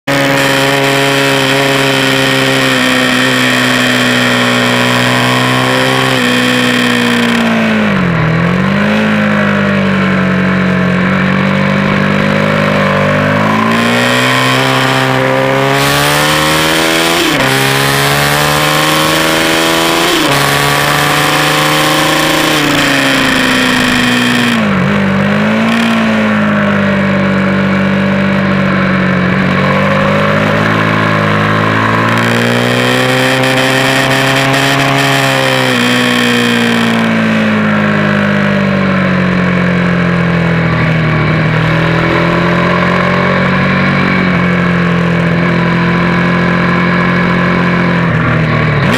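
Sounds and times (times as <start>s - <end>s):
motorcycle engine at high revs: 0.0s - 48.9s.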